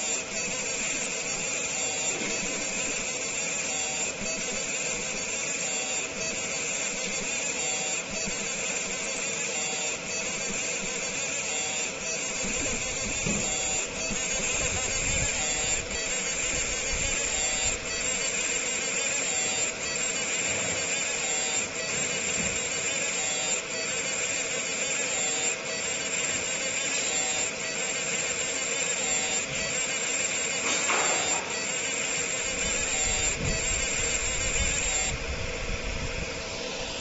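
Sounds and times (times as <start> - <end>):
laser marking buzzing hiss: 0.0 - 37.0.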